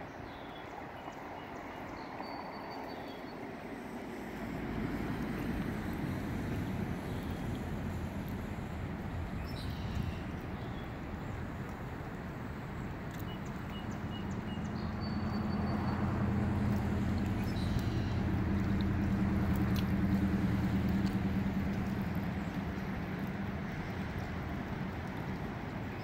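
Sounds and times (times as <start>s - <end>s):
wind: 0.0s - 26.0s
low steady drone: 2.0s - 26.0s
lake waves washing: 3.4s - 26.0s.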